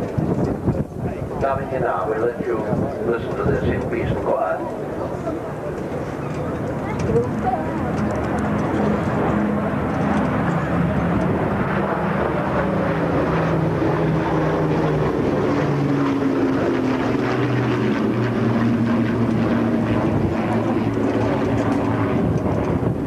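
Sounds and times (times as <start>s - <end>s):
propeller aircraft drone: 0.0s - 23.0s.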